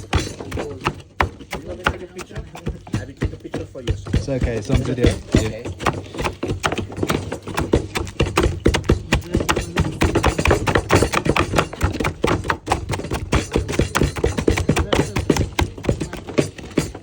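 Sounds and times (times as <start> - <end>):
food being pounded and mashed: 0.0 - 17.0.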